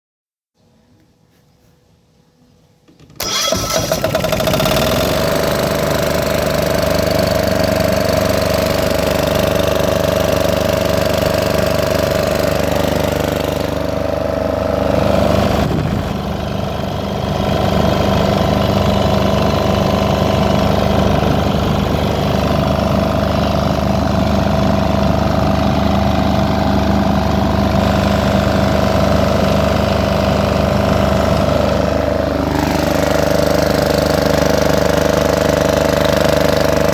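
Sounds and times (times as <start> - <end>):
generator engine running: 3.2 - 36.9.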